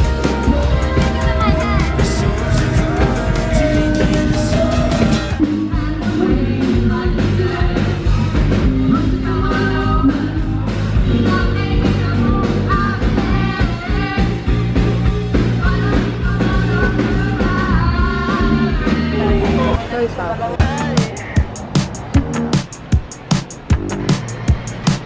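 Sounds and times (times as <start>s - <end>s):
bass guitar: 0.0s - 19.8s, 20.6s - 22.7s, 23.7s - 24.3s
drums: 0.0s - 19.8s, 20.6s - 25.0s
person singing: 0.0s - 19.8s, 20.6s - 21.6s.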